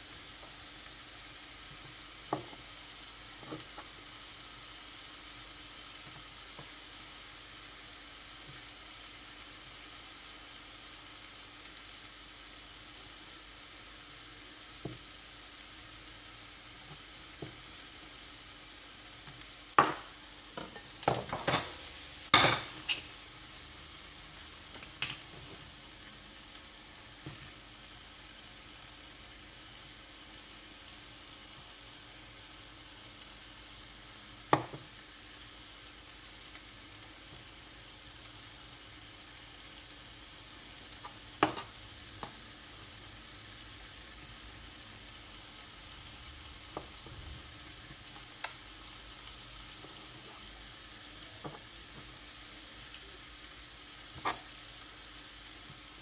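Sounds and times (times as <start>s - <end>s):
chicken sizzling in a frying pan: 0.0s - 56.0s.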